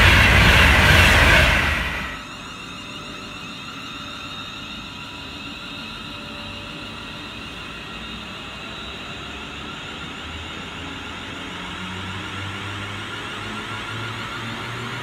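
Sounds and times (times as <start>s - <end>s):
train mechanical whir: 0.0s - 15.0s.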